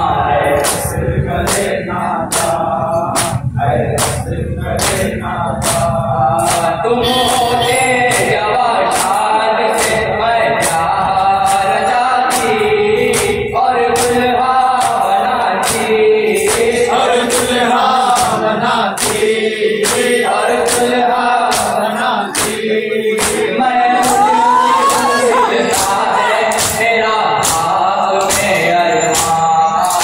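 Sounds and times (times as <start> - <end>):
male voices chanting in chorus: 0.0 - 30.0
rhythmic chest-beating slaps: 0.0 - 30.0.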